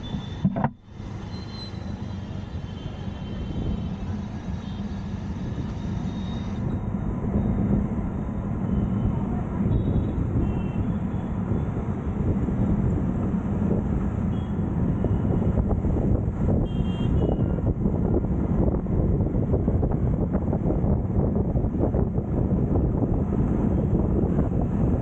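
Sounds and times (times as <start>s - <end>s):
vehicle road noise rumble: 0.0s - 25.0s.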